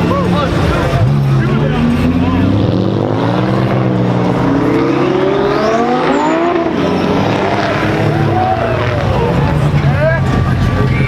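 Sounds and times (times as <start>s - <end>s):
car engine revving and accelerating: 0.0s - 11.0s
car engines running: 0.0s - 11.0s.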